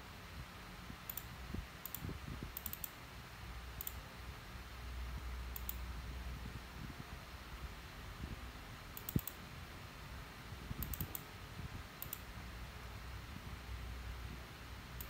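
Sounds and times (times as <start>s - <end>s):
faint low room rumble: 0.0s - 15.0s.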